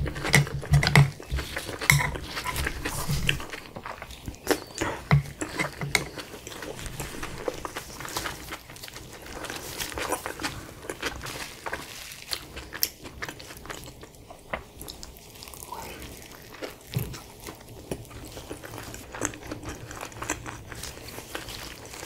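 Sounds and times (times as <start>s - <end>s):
biting and chewing soft wrap: 0.0s - 22.0s.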